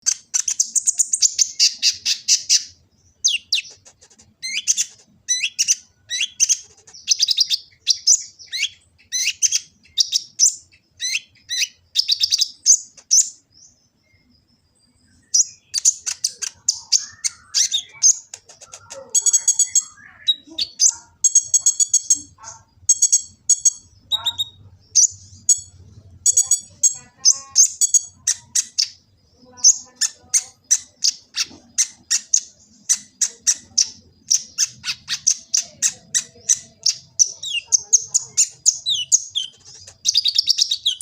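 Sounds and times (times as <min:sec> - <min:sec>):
sunbird high-pitched twittering: 0:00.0 - 0:41.0.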